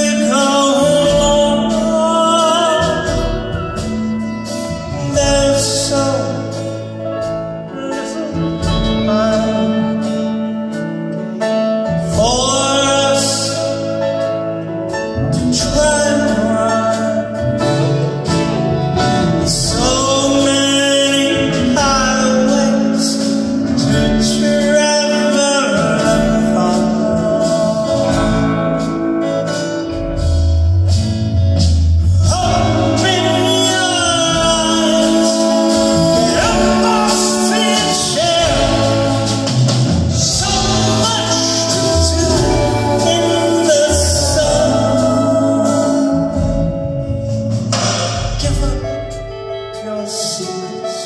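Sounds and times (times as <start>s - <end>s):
man singing: 0.0s - 30.3s, 32.0s - 51.0s
acoustic guitar: 0.0s - 51.0s
drums: 0.0s - 51.0s
keyboards: 0.0s - 51.0s
pedal steel guitar: 0.0s - 51.0s.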